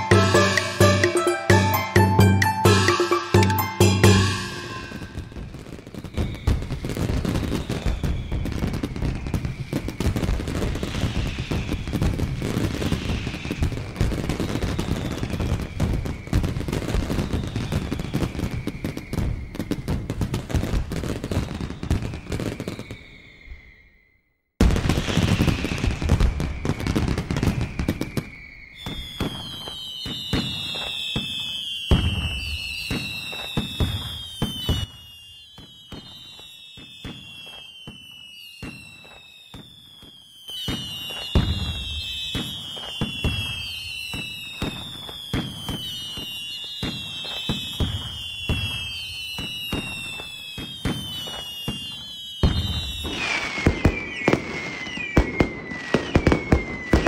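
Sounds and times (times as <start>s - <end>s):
fireworks bangs and crackling: 0.0s - 23.8s, 24.6s - 57.0s
falling firework whistle: 0.0s - 57.0s.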